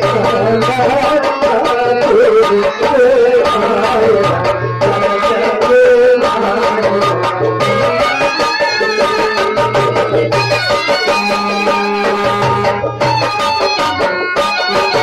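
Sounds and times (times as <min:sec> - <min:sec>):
hand drum rhythm: 0:00.0 - 0:15.0
wavering melody line: 0:00.0 - 0:15.0.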